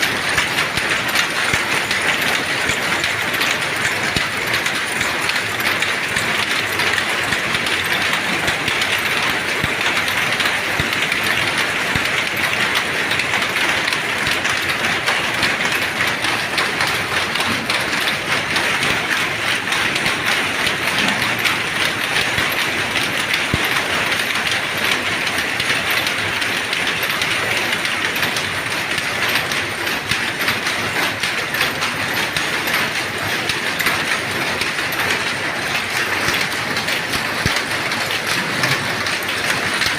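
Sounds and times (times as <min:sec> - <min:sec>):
power looms clattering: 0:00.0 - 0:39.9.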